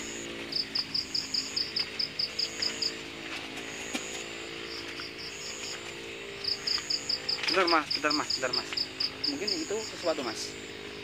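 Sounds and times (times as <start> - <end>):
crickets chirping: 0.0 - 11.0
steady low drone: 0.0 - 11.0.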